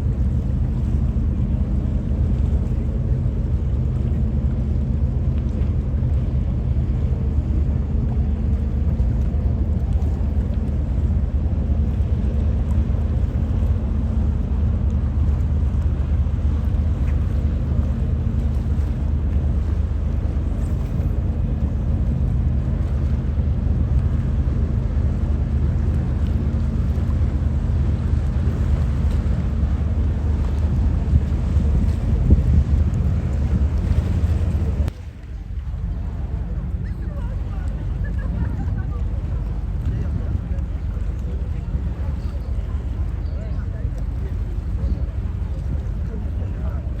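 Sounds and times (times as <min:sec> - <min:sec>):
low engine rumble: 0:00.0 - 0:47.0.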